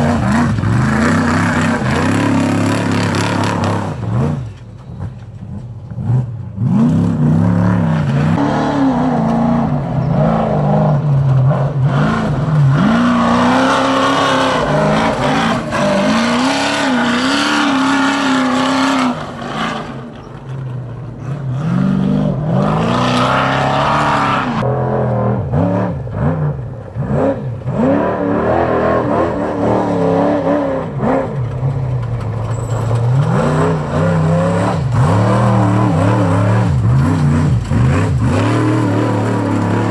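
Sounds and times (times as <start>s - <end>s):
truck engines revving past: 0.0s - 39.9s.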